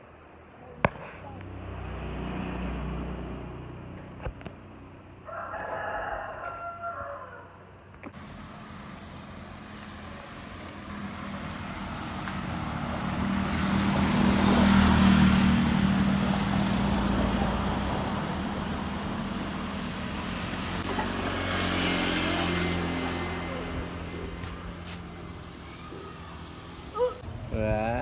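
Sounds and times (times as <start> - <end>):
engine hum: 0.1 - 5.3, 8.0 - 28.0
tyre and road noise: 0.1 - 6.8, 7.7 - 28.0.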